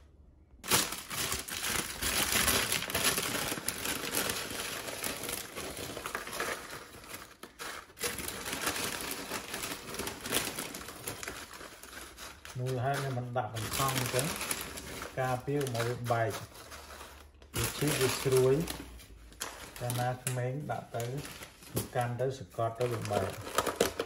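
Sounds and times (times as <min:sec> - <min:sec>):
foil and plastic crinkling: 0:00.6 - 0:24.0.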